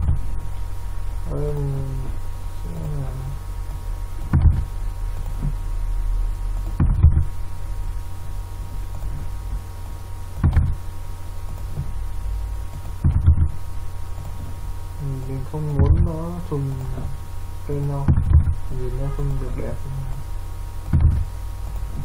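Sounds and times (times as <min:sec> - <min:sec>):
soft low thumps: 0:00.0 - 0:15.0, 0:15.6 - 0:22.0
low electrical hum: 0:00.0 - 0:22.0.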